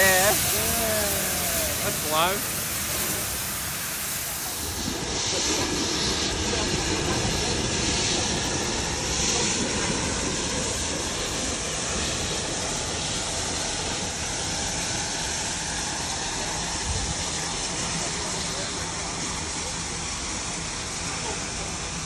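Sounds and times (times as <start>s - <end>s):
steam hissing: 0.0s - 22.0s
steam locomotive moving off: 0.0s - 22.0s.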